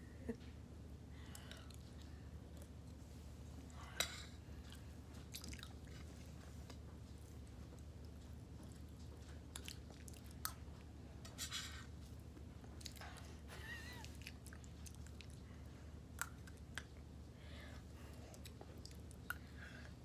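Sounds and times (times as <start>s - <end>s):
chewing mashed potatoes: 1.2s - 20.0s.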